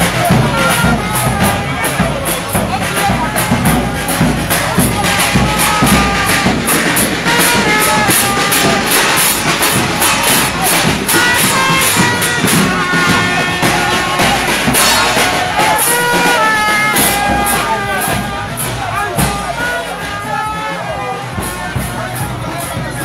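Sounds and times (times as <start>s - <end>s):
bass drum beat: 0.0s - 23.0s
high percussion hits: 0.0s - 23.0s
trumpet melody: 0.0s - 23.0s.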